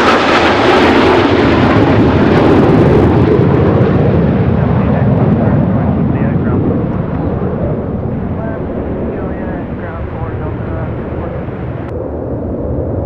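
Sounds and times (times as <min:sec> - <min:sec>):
jets roaring: 0:00.0 - 0:13.0.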